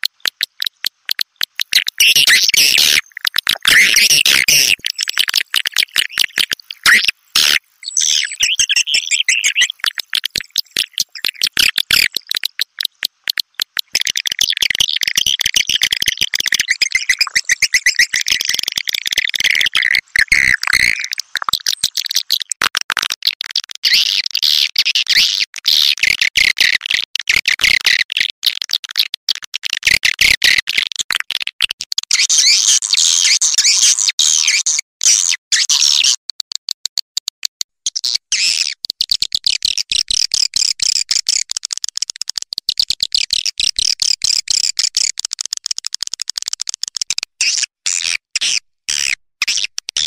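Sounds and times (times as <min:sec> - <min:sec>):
rapid high bird chirps and clicks: 0:00.0 - 0:50.0.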